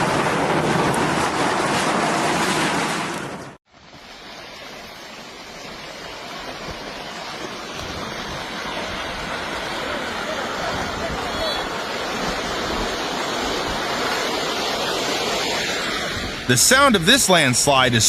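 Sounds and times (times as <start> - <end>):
loud rushing water: 0.0 - 18.0
rumbling rush of water: 0.0 - 18.0.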